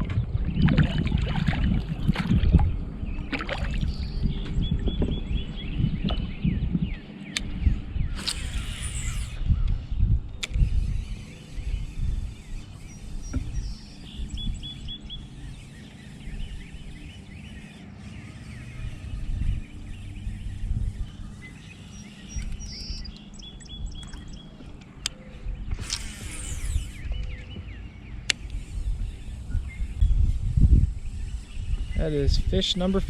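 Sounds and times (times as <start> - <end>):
wind rumbling on microphone: 0.0 - 33.0
bird chirping: 1.9 - 33.0.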